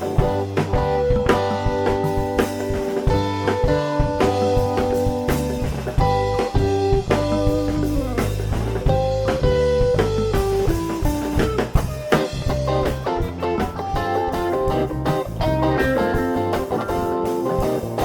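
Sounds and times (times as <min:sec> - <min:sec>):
bass guitar: 0:00.0 - 0:18.0
drum kit: 0:00.0 - 0:18.0
held electric guitar notes: 0:00.0 - 0:18.0.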